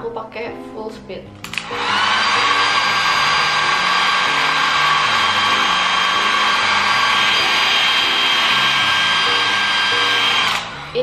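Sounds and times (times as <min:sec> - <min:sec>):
hair dryer running: 0:01.4 - 0:11.0.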